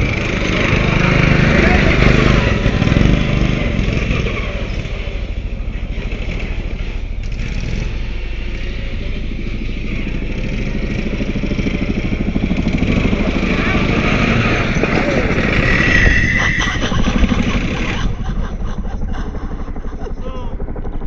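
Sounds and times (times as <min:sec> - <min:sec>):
lawnmower engine running: 0:00.0 - 0:21.0.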